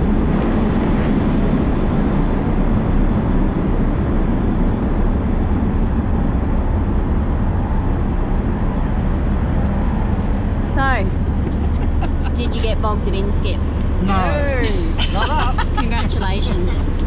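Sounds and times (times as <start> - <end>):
low engine rumble: 0.0 - 17.0
noisy wash: 0.0 - 17.0.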